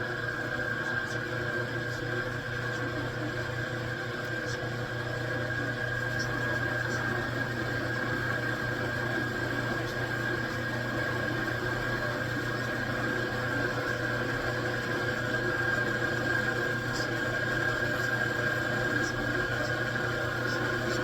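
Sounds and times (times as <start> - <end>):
metal lathe humming and whining: 0.0 - 21.0.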